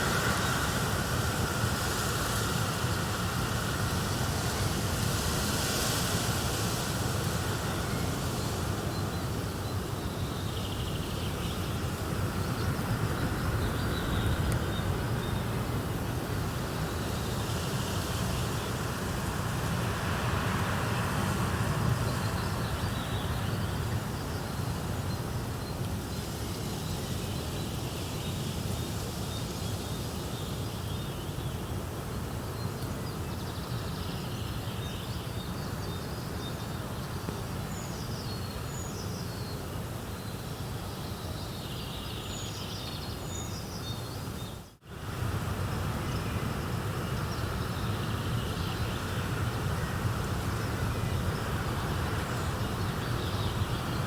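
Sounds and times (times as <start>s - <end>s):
noisy nature ambience: 0.0s - 54.0s.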